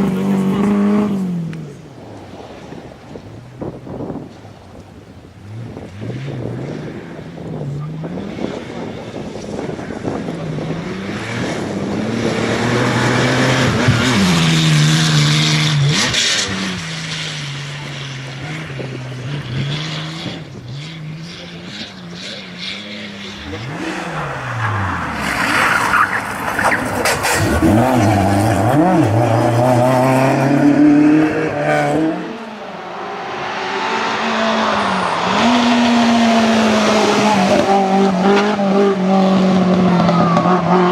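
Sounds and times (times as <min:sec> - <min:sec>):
cars passing close by: 0:00.0 - 0:40.9
rally car engines at full throttle: 0:00.0 - 0:40.9.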